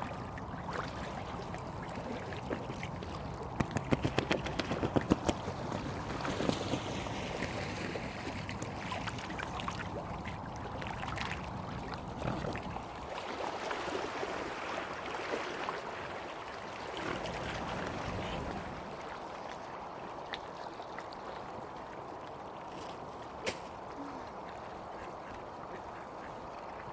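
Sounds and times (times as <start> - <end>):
boat motor and water wash: 0.0 - 26.9.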